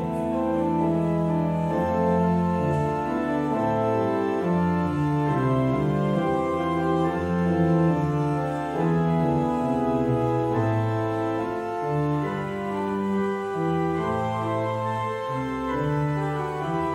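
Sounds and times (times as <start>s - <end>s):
organ playing slow chords: 0.0s - 16.9s.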